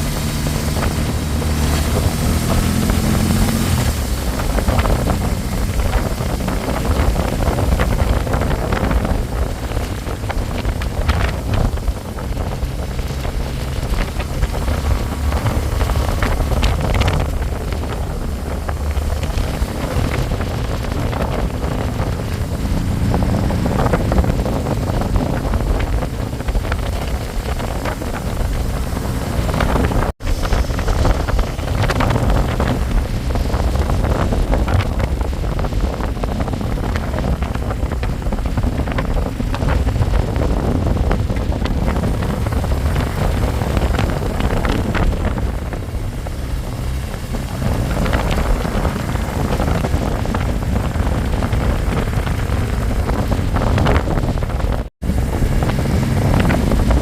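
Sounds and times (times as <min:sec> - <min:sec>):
motorbike engine and road rumble: 0:00.0 - 0:57.0
wind buffeting microphone: 0:00.0 - 0:57.0.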